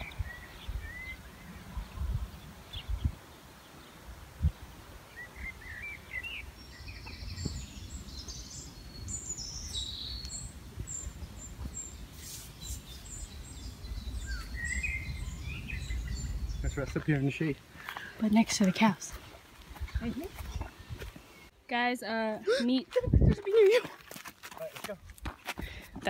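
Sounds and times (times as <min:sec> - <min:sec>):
songbirds chirping and singing: 0:00.0 - 0:21.5.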